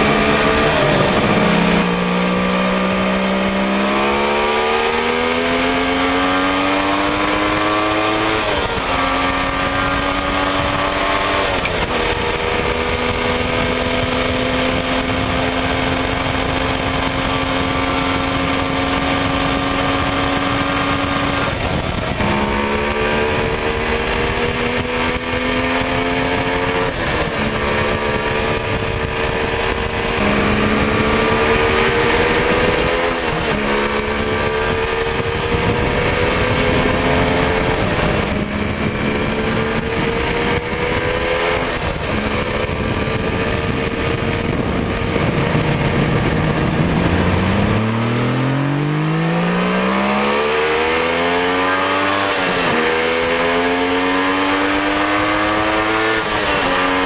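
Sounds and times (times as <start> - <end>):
motorcycle engine accelerating: 0.0 - 57.0
wind rushing over microphone: 0.0 - 57.0.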